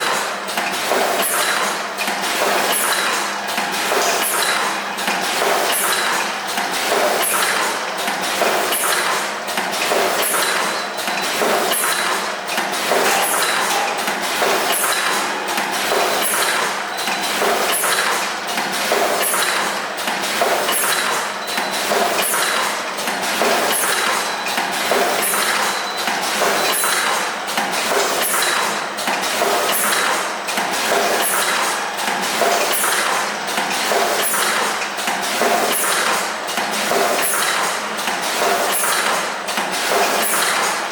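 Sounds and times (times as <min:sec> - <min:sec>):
machine clacking and knocking: 0:00.0 - 0:40.9.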